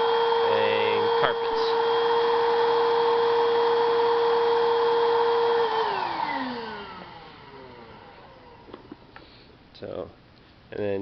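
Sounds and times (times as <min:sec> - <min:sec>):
vacuum motor winding down: 0:00.0 - 0:09.2
stick vacuum whine: 0:00.0 - 0:09.3.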